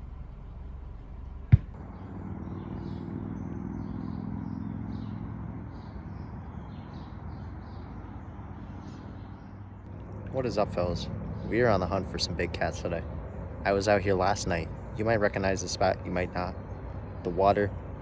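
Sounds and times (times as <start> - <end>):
vehicle engine passing: 0.0 - 9.3, 9.9 - 18.0.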